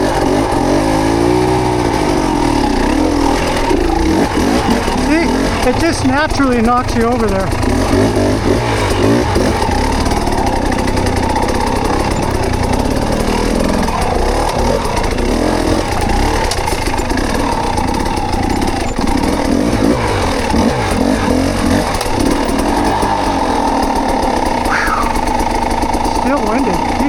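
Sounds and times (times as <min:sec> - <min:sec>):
bike tyre and drivetrain rattle: 0:00.0 - 0:27.0.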